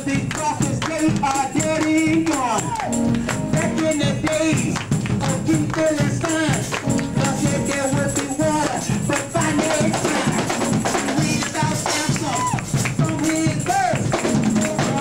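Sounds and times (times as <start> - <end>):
hand clapping: 0.0 - 9.6, 11.3 - 15.0
man singing into a microphone: 0.0 - 15.0
tambourines: 0.0 - 15.0.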